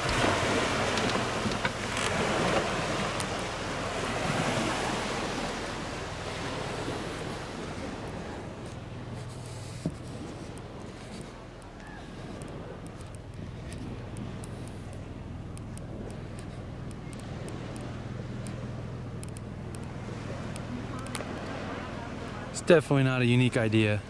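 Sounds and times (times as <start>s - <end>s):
small waves washing onto shore: 0.0s - 24.0s
wind: 0.0s - 24.0s.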